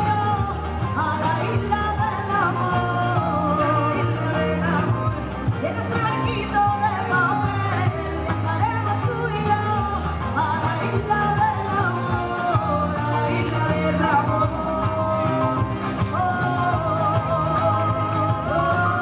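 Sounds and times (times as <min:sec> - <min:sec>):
acoustic guitar: 0:00.0 - 0:19.0
keyboard: 0:00.0 - 0:19.0
woman singing into a microphone: 0:00.0 - 0:19.0.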